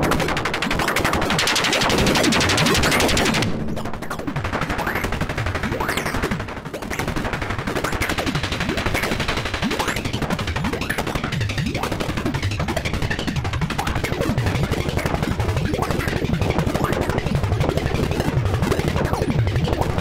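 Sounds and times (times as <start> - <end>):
crackling synth texture with pitch glides: 0.0 - 20.0.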